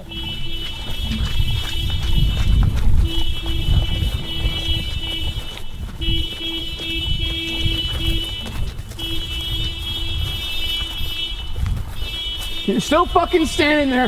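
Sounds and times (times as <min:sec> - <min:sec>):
car alarm shrill tone: 0:00.0 - 0:14.0.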